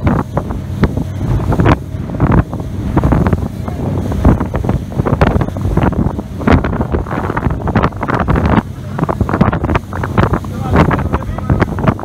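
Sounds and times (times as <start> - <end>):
boat engine rumble: 0.0 - 12.0
water splashing against hull: 0.0 - 12.0
wind buffeting microphone: 0.0 - 12.0.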